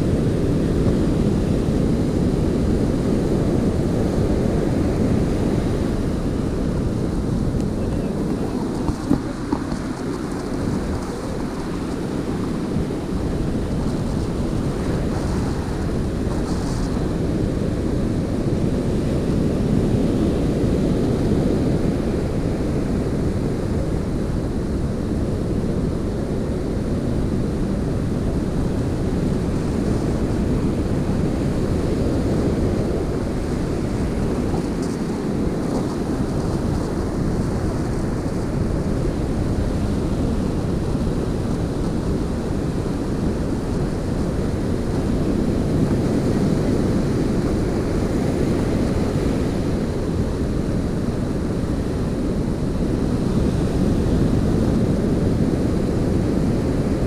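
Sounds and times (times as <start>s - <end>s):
surf breaking on beach: 0.0s - 24.7s, 25.3s - 57.0s
wind buffeting microphone: 0.0s - 57.0s.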